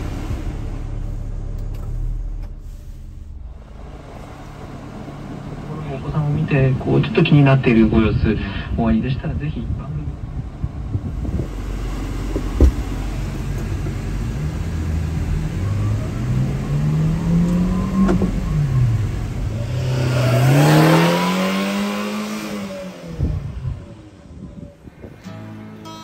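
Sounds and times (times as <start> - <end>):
small truck engine accelerating: 0.0 - 7.6, 10.2 - 25.9.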